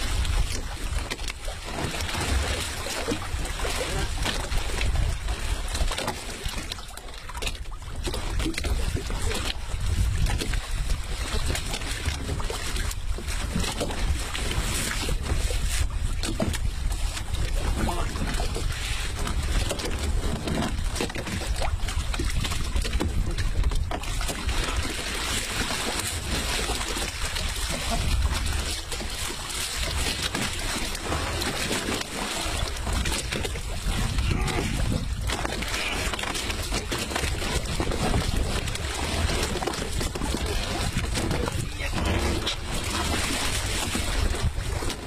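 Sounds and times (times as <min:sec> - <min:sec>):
knocks and scrapes against hull: 0:00.0 - 0:45.0
sea noise: 0:00.0 - 0:45.0
wind rumbling on microphone: 0:00.0 - 0:45.0.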